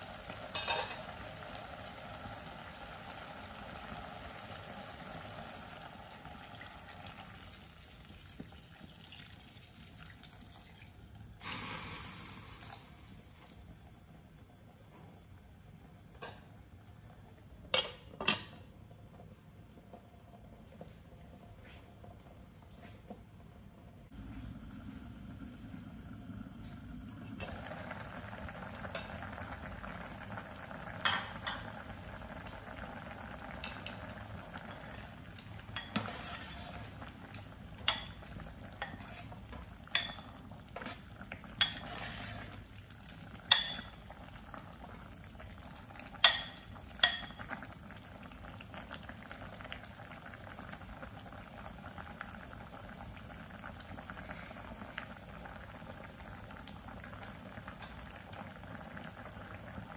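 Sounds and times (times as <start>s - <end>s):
soup boiling and bubbling: 0.0s - 59.9s.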